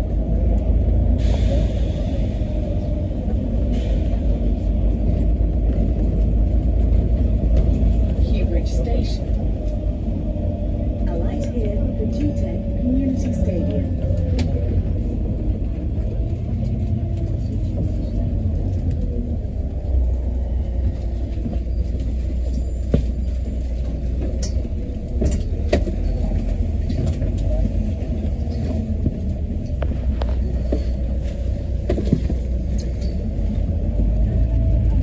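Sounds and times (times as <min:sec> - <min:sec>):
bus engine low rumble: 0:00.0 - 0:35.0.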